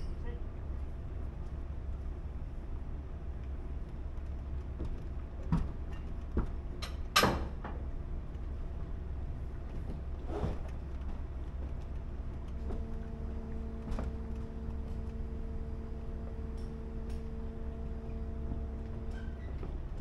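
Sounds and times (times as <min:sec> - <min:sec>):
low rumble of boat underway: 0:00.0 - 0:20.0.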